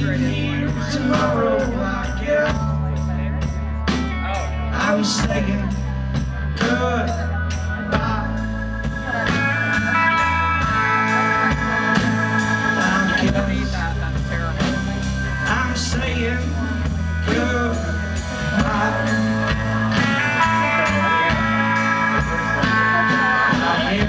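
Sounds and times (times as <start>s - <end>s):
drum kit cymbal beat: 0.0s - 24.0s
electric guitars: 0.0s - 24.0s
person singing: 0.0s - 24.0s.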